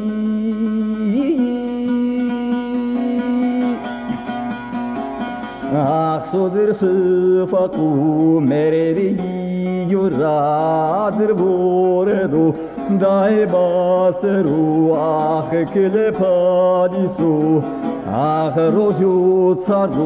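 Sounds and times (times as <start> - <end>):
man singing folk song: 0.0 - 20.0.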